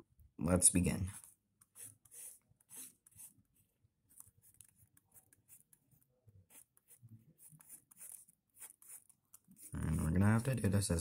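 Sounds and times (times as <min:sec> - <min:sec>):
pencil scratching on paper: 0:01.0 - 0:10.5.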